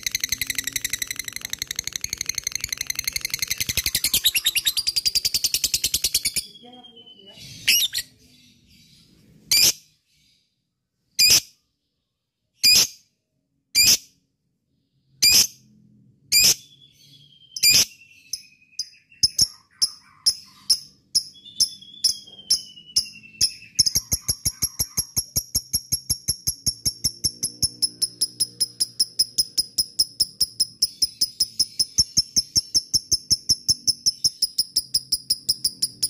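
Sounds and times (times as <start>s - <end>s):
lovebird chirping and trilling: 0.0s - 10.5s, 11.1s - 11.8s, 12.6s - 13.1s, 13.7s - 14.2s, 15.0s - 36.0s.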